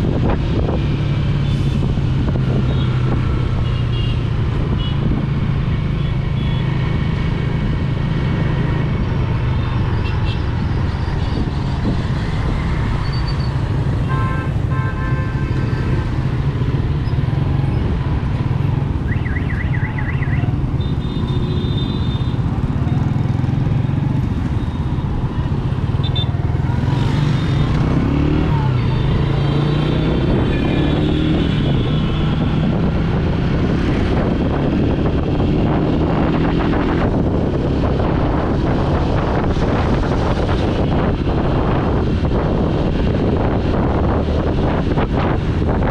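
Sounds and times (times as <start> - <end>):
passing traffic: 0.0 - 45.9.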